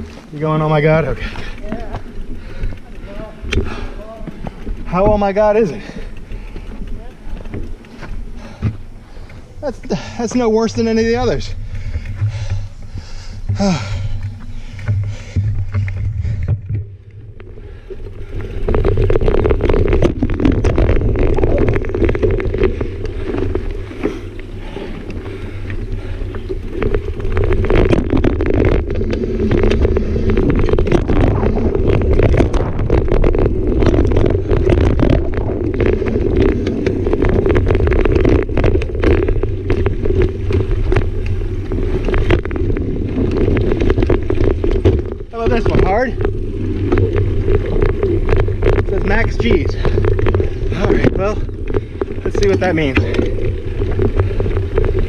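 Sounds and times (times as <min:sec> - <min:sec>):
bike rattling and clicking: 0:00.0 - 0:55.0
tyre rumble on dirt: 0:10.0 - 0:55.0.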